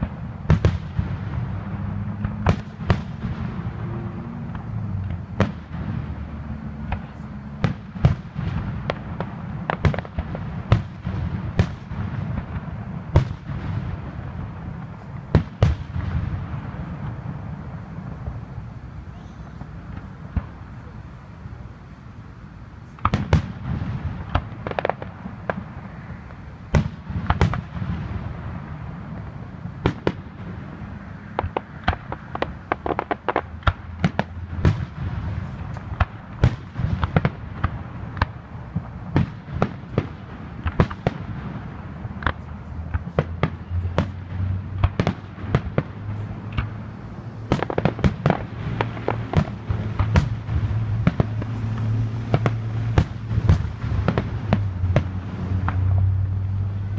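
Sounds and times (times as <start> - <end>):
fireworks bursting: 0.0 - 56.9.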